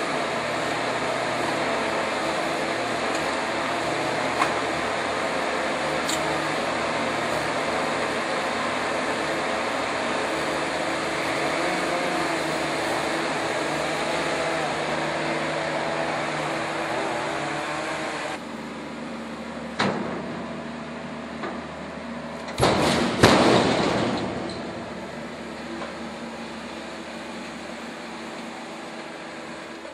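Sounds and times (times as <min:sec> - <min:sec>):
skid steer engine and hydraulics: 0:00.0 - 0:29.9.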